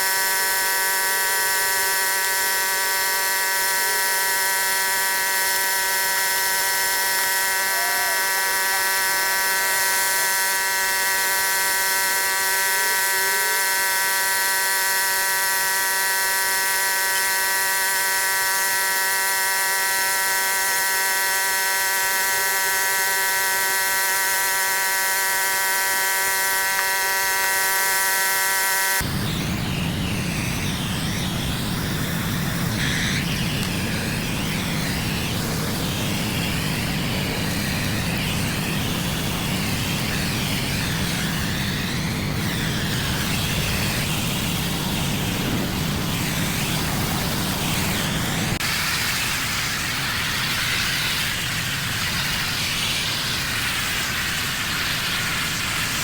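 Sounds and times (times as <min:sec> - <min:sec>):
machine whine: 0:00.0 - 0:56.0
pressure washer spraying water: 0:00.0 - 0:56.0.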